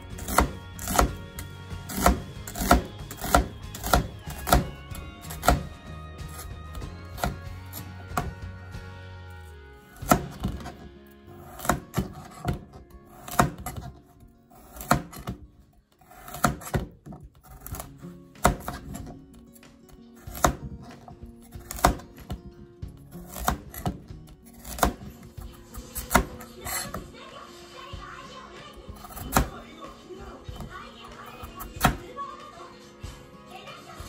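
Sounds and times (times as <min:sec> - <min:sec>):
background music: 0:00.0 - 0:34.0.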